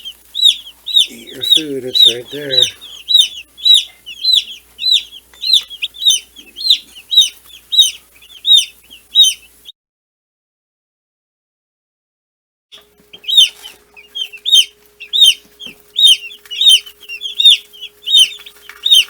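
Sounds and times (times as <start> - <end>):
chicks peeping: 0.0 - 9.7, 12.7 - 19.0.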